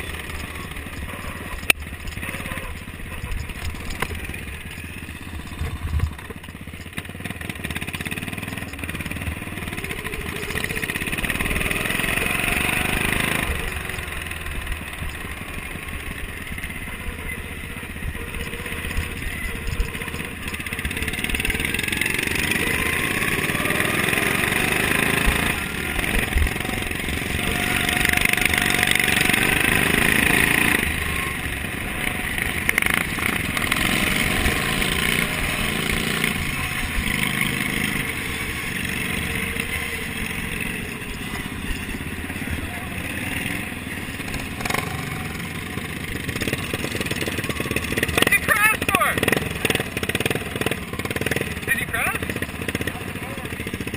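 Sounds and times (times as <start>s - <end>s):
lawn tractor engine running hard: 0.0s - 53.9s.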